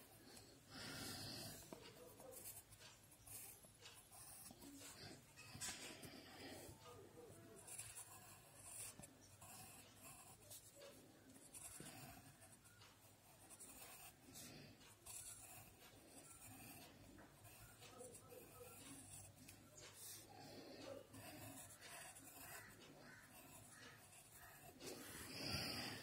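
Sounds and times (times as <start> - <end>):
pencil scratching on paper: 0.0 - 26.0.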